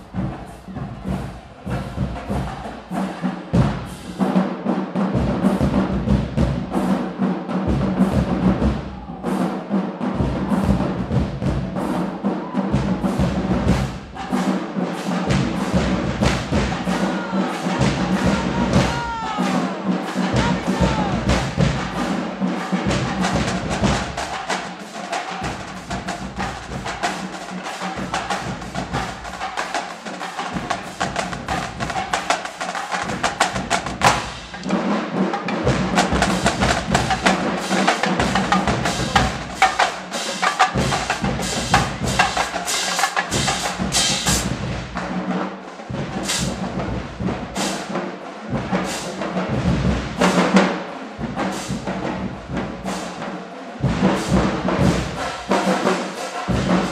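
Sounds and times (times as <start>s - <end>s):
snare drum strokes: 0.0s - 56.9s.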